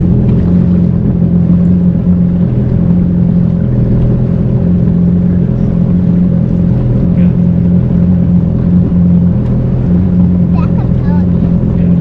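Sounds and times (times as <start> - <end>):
jet ski engine drone: 0.0 - 12.0.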